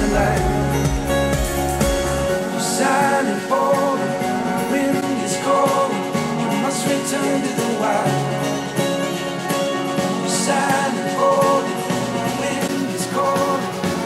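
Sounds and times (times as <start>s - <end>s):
song with singing over speakers: 0.0s - 14.0s.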